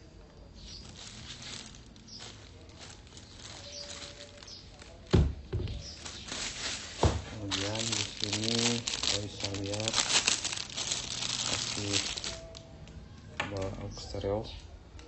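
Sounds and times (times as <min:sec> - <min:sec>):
handling noise and plastic rustling: 0:00.1 - 0:15.0.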